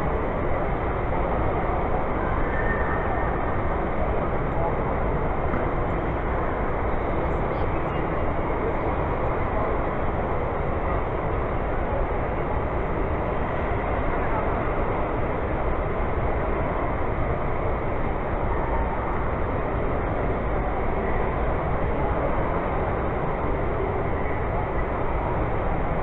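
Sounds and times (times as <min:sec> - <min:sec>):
crowd chattering: 0:00.0 - 0:26.0
model train running on track: 0:00.0 - 0:26.0.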